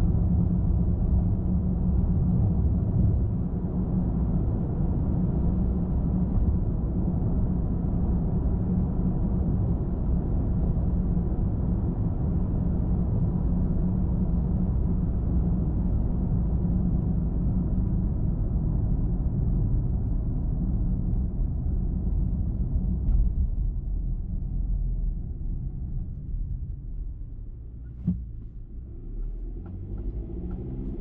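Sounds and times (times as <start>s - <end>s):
car engine noise: 0.0s - 31.0s.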